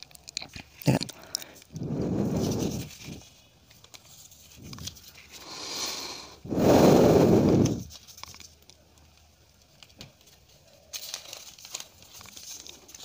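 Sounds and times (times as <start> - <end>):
paper rustling and crinkling: 0.0 - 5.4, 7.7 - 13.0.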